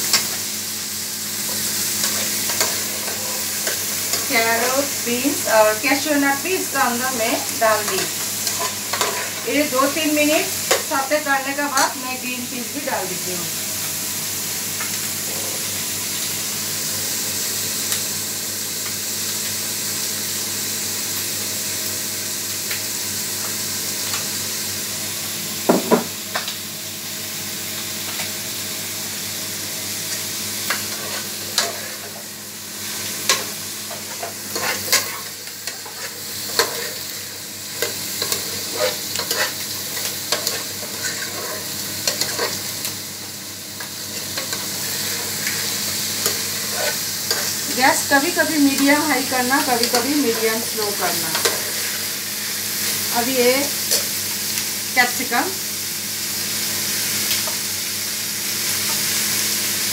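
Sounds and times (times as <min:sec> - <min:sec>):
vegetables sizzling in pot: 0:00.0 - 0:59.9.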